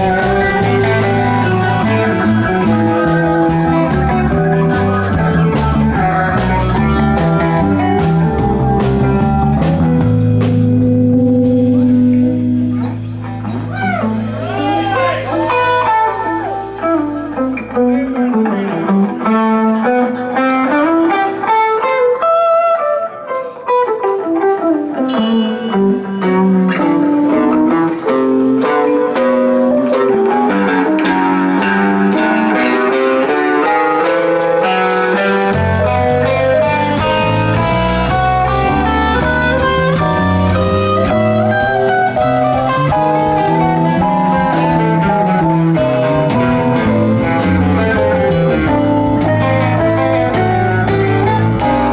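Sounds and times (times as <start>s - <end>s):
bass guitar: 0.0s - 51.9s
electric guitar lead lines: 0.0s - 51.9s
live rock band: 0.0s - 51.9s.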